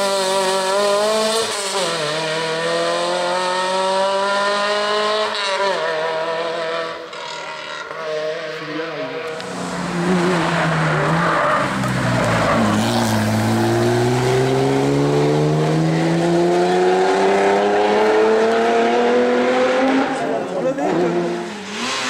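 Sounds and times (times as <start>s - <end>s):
rally car engine: 0.0s - 22.0s.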